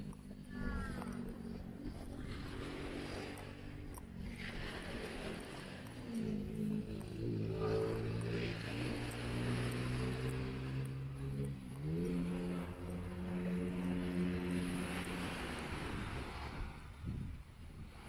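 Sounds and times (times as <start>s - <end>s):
motor engine humming: 0.0s - 18.0s
small waves breaking on sand: 0.0s - 18.0s.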